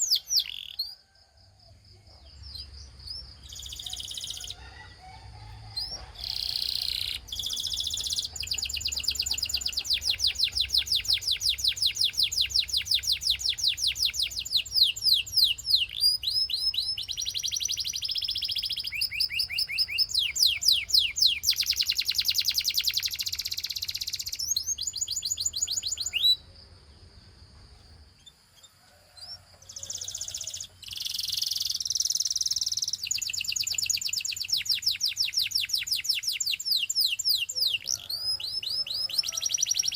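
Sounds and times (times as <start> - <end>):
canary singing trills: 0.0 - 1.2, 2.1 - 26.6, 27.9 - 39.9.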